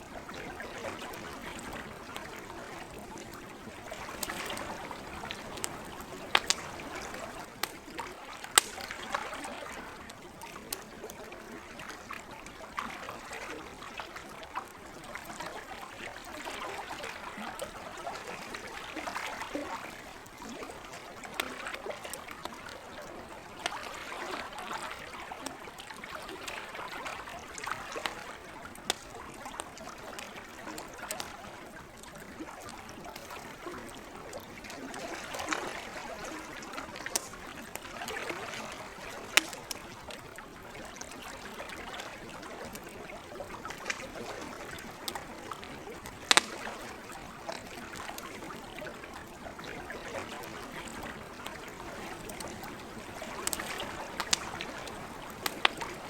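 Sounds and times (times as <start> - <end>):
campfire crackling: 0.0 - 56.0
water lapping at shore: 0.0 - 56.0.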